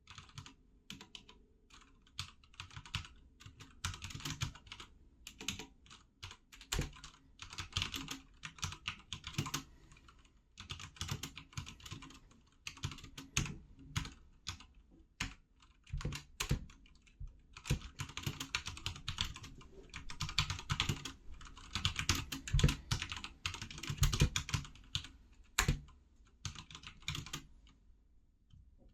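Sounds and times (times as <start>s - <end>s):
typing on mechanical keyboard: 0.1s - 27.5s.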